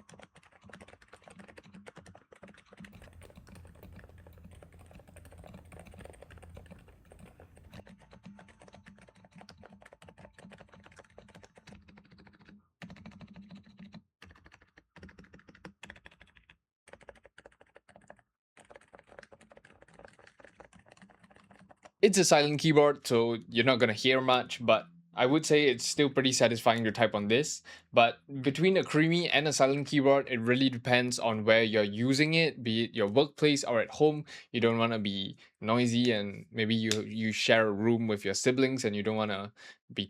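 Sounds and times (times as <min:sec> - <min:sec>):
muted keyboard typing: 0:00.0 - 0:37.2.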